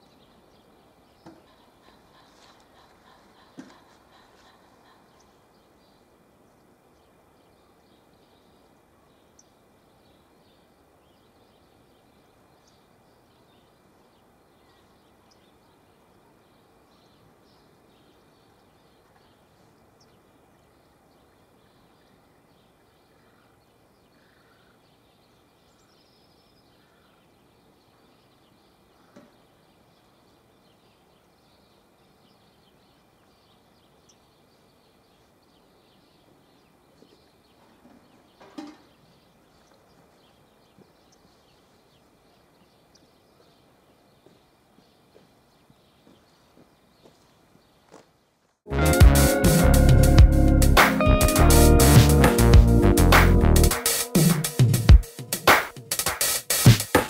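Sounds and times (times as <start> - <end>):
faint bird chirps: 0.0 - 47.9.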